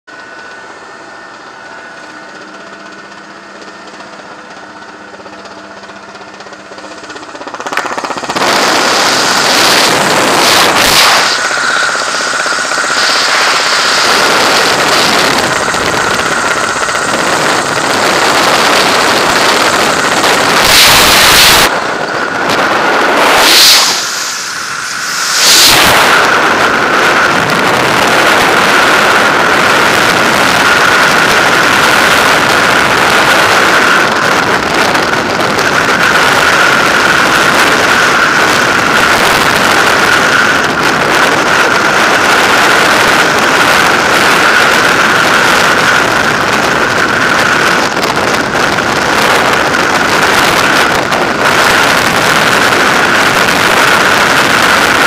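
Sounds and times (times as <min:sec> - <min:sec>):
propeller aircraft engine drone: 0:00.0 - 0:55.0
wind buffeting microphone: 0:00.1 - 0:55.0
wind rushing: 0:02.8 - 0:55.0.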